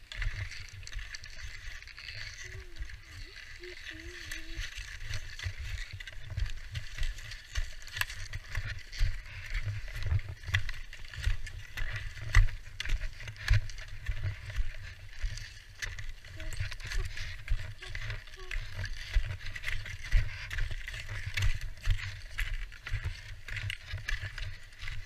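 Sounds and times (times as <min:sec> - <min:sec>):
skis scraping over packed snow: 0:00.0 - 0:25.0
wind rumbling on microphone: 0:00.0 - 0:25.0.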